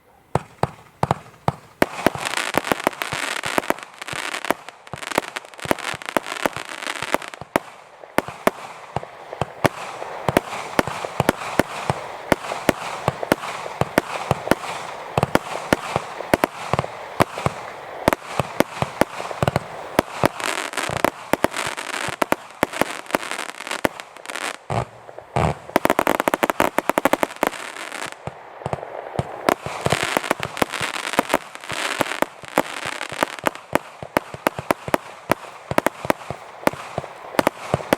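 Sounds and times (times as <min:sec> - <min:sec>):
firework crackling: 0:00.3 - 0:37.9
firework shots banging: 0:00.3 - 0:37.9.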